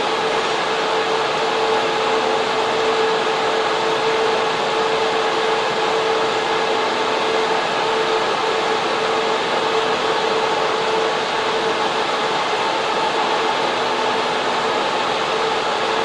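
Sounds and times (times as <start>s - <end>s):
server fans rushing air: 0.0s - 16.0s.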